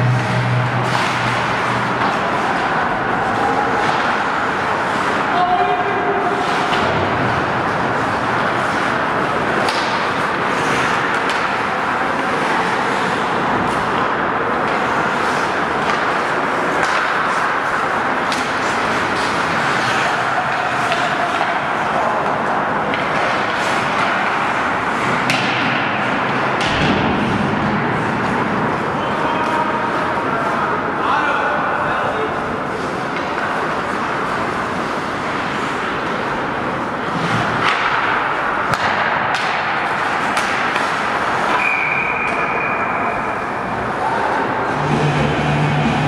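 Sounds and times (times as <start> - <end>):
hockey sticks and puck clacking: 0.0 - 30.8, 32.2 - 44.9.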